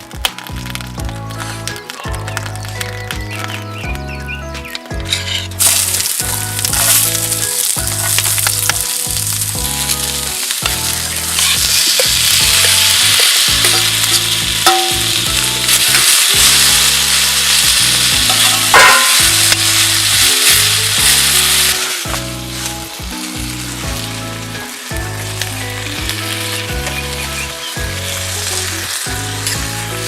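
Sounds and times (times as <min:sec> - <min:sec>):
background music: 0:00.0 - 0:30.0
food sizzling in a hot pan: 0:05.0 - 0:30.0
sharp pops of frying: 0:05.0 - 0:30.0.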